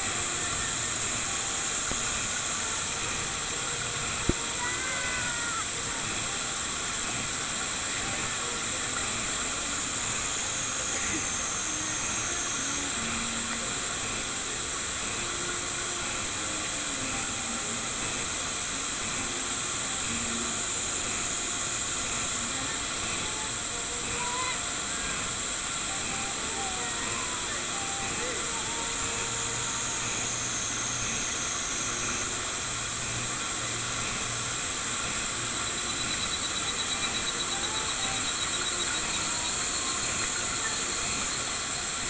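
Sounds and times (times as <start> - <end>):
faint voices: 0.0 - 42.0
high-pitched hiss: 0.0 - 42.0.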